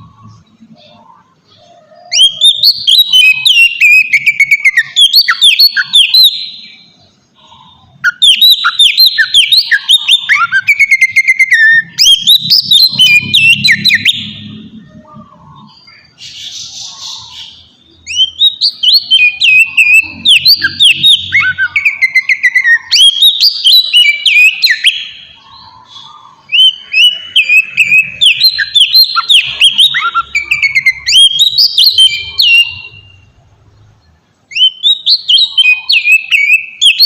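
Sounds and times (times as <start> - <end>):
magpie-robin whistled song: 0.0 - 33.4, 34.0 - 37.0.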